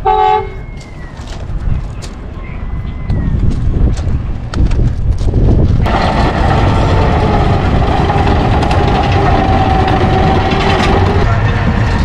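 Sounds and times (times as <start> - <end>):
train engine rumble and whine: 0.0 - 12.0.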